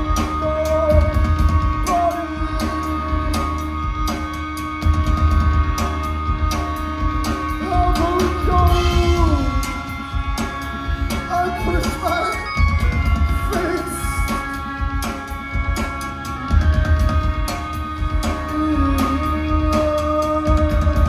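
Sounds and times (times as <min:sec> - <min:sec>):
drum kit hits: 0:00.0 - 0:21.0
person singing: 0:00.0 - 0:21.0
rock band playing: 0:00.0 - 0:21.0.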